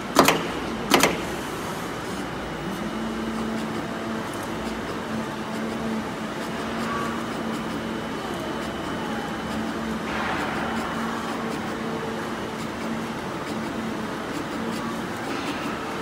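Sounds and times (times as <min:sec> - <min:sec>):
cutting machine humming: 0:00.0 - 0:16.0.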